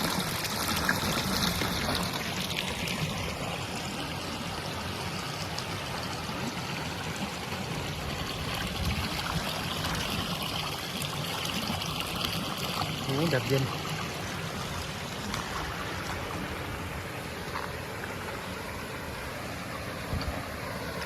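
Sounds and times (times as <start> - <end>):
stream pouring down small waterfall: 0.0 - 21.0.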